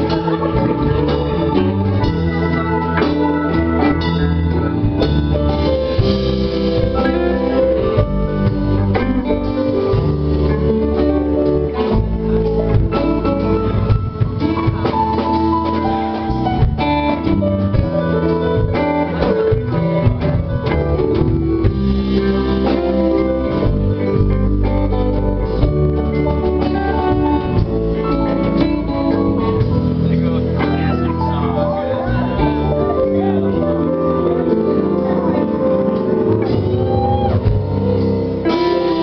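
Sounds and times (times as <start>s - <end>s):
drum kit: 0.0s - 39.0s
electric bass: 0.0s - 39.0s
electric guitar: 0.0s - 39.0s.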